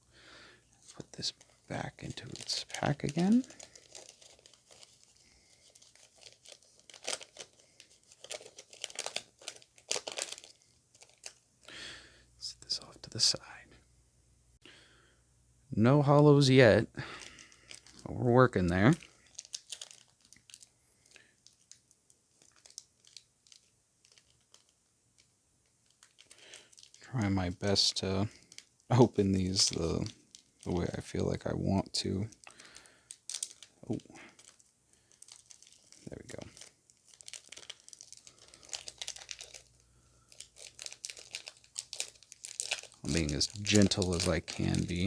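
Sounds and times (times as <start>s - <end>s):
foil wrapper crinkling: 1.0s - 11.7s, 17.0s - 27.1s, 27.8s - 45.0s.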